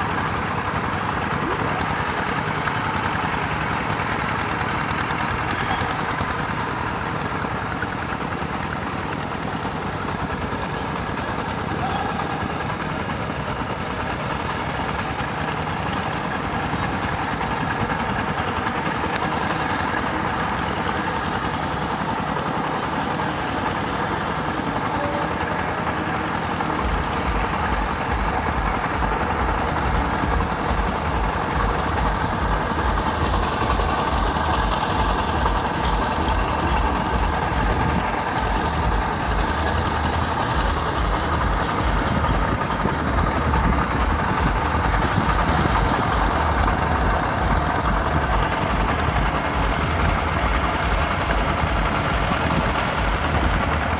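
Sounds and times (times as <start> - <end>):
diesel tractor engines running: 0.0 - 53.9
low engine pulse: 0.0 - 53.9.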